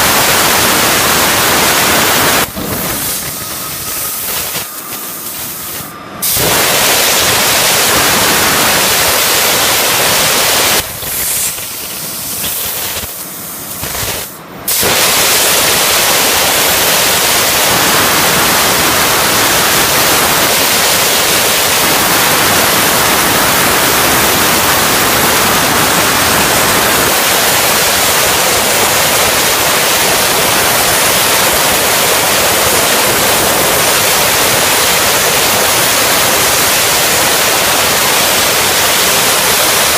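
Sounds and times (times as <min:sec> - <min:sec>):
plasma torch cutting steel: 0:00.0 - 0:39.9.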